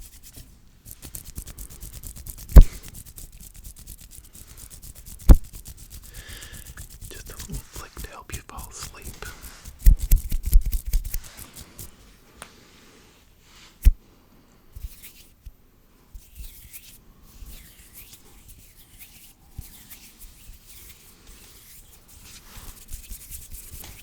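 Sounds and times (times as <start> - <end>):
hands rubbing together: 0.0 - 12.0, 16.2 - 24.0.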